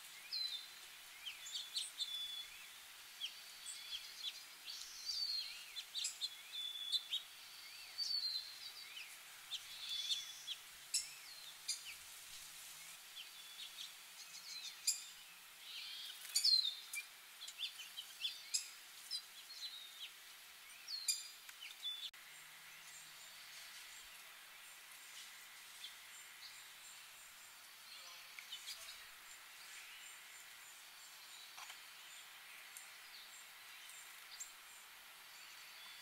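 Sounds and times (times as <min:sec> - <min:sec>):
songbirds chirping: 0:00.0 - 0:36.0
steady background hiss: 0:00.0 - 0:36.0.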